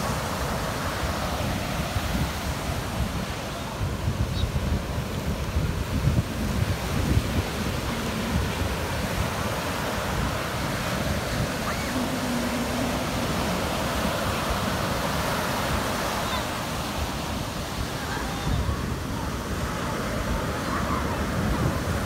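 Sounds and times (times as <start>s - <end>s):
surf breaking on beach: 0.0s - 22.0s
wind rumbling on microphone: 0.0s - 22.0s.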